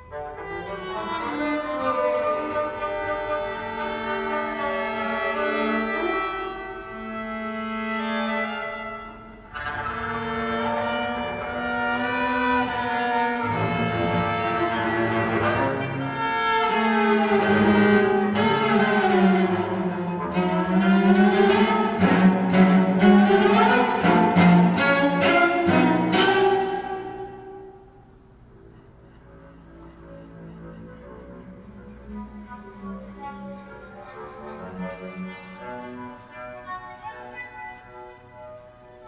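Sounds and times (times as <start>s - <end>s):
bowed string trio: 0.0s - 39.0s.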